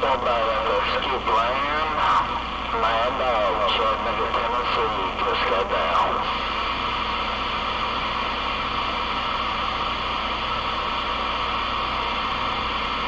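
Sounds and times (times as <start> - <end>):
low hum: 0.0 - 13.0
radio static hiss: 0.0 - 13.0.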